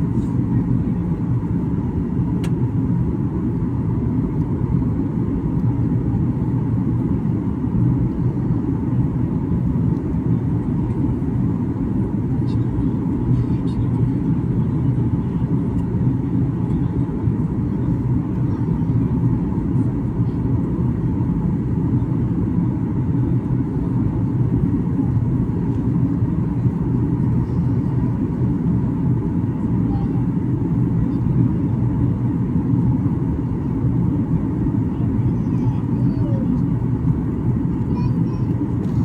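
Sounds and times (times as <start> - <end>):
airliner engines rumbling: 0.0 - 39.0.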